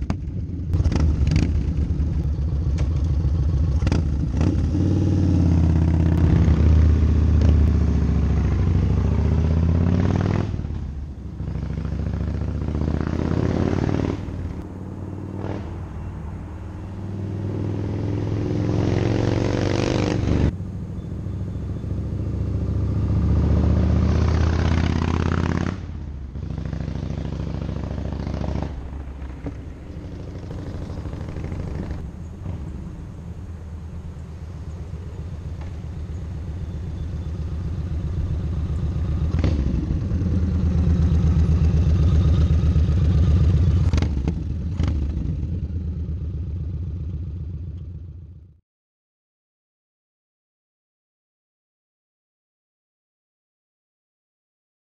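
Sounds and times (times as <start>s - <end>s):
motorcycle engine revving: 0.0s - 16.0s, 16.9s - 48.4s
motorcycle pulling away: 0.0s - 16.1s, 16.7s - 48.4s.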